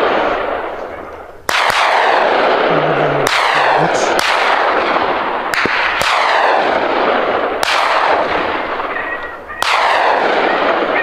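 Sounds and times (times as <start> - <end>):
gunshots with rolling echo: 0.0 - 11.0.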